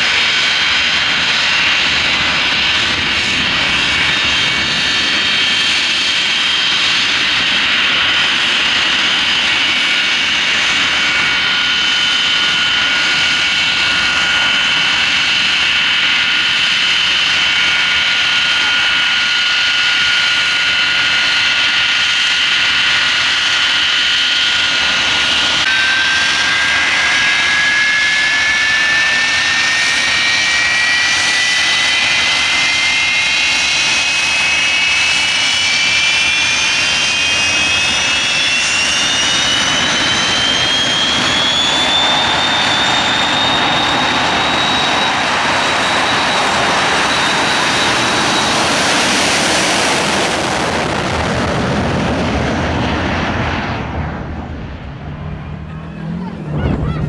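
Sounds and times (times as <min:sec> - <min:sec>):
jet engines whining and rumbling: 0:00.0 - 0:57.0.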